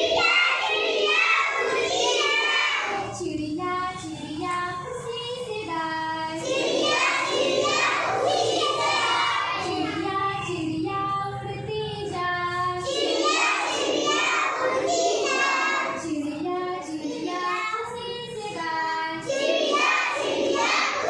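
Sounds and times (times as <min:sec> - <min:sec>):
children singing a rhyme: 0:00.0 - 0:21.0.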